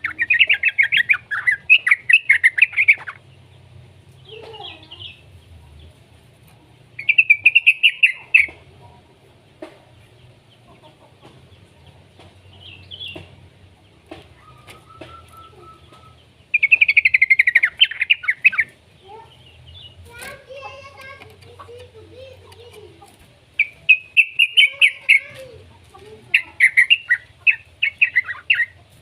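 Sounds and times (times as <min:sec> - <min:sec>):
bird chattering song: 0:00.0 - 0:06.0, 0:06.9 - 0:29.0.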